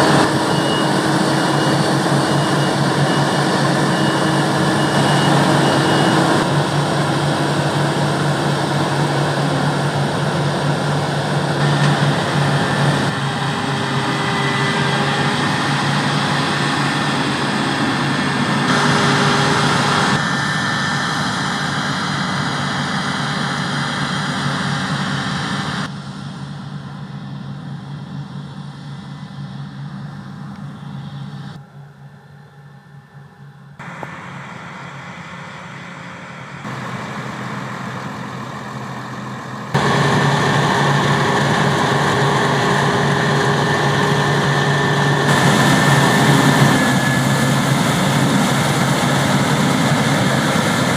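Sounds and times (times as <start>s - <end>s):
diesel harvest machinery running: 0.0s - 31.9s, 33.8s - 50.9s.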